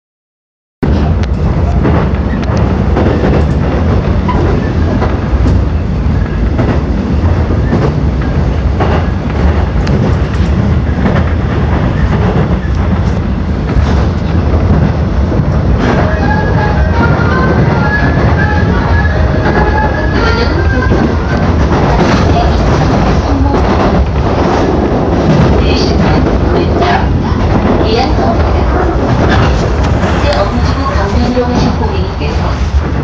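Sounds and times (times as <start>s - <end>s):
subway train rumble: 0.8s - 33.0s.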